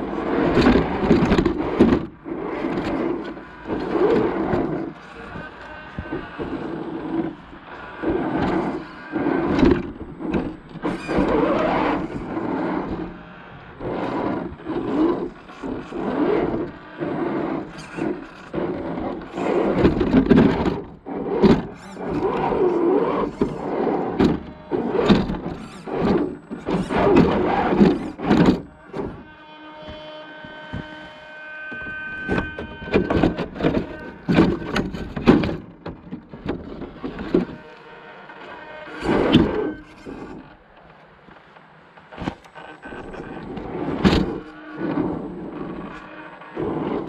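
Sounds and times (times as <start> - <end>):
chassis knocks and clunks: 0.0 - 37.7, 39.0 - 47.0
electric motor whining: 0.0 - 47.0.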